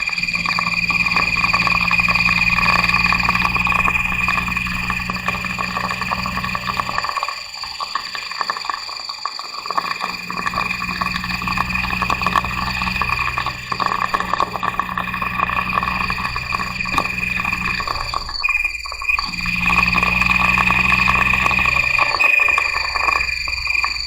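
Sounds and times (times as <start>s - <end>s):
car engine low drone: 0.0s - 8.1s, 9.9s - 24.0s
high-pitched transmission whine: 0.0s - 24.0s.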